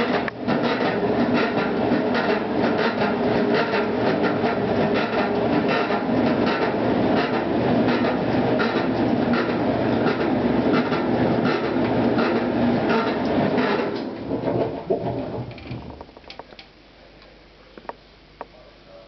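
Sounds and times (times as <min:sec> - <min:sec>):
washing machine churning rumble: 0:00.0 - 0:17.6.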